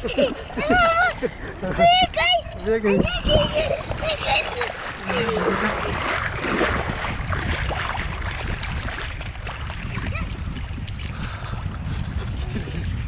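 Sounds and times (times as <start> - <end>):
sea water washing in shallows: 0.0 - 13.0
wind rumbling on microphone: 0.0 - 13.0.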